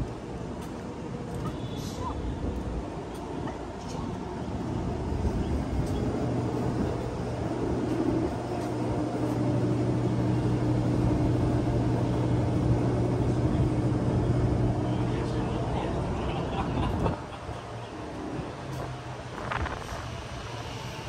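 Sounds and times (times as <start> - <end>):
machinery humming: 0.0 - 21.0
street noise: 0.0 - 21.0.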